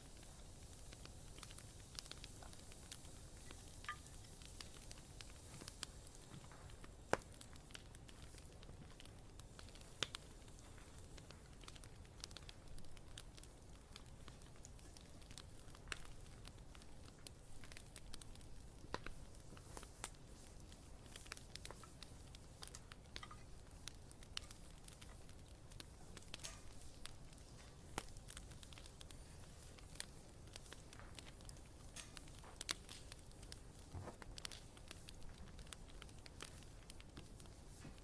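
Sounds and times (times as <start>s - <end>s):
campfire crackling and popping: 0.0s - 38.0s
low hiss of burning fire: 0.0s - 38.0s.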